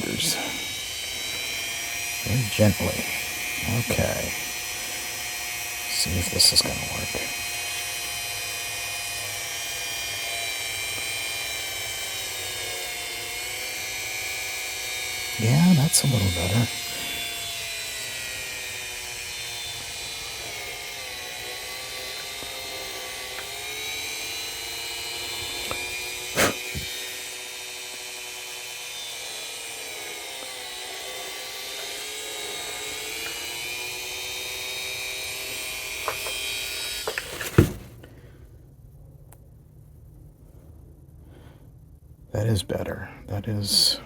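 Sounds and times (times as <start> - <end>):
electric rotary tool drilling plastic: 0.0 - 38.0.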